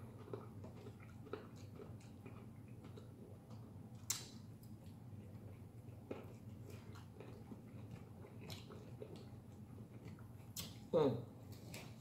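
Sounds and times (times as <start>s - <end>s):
faint chewing: 0.0s - 12.0s
low room hum: 0.0s - 12.0s.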